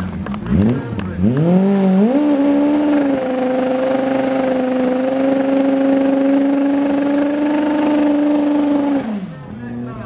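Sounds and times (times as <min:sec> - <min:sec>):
motorcycle engine at high revs: 0:00.0 - 0:10.0.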